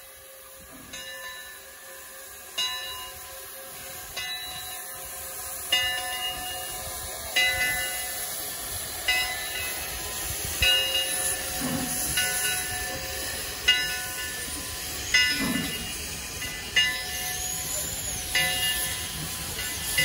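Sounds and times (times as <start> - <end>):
locomotive bell ringing: 0.0 - 20.0
steam hissing: 0.0 - 20.0.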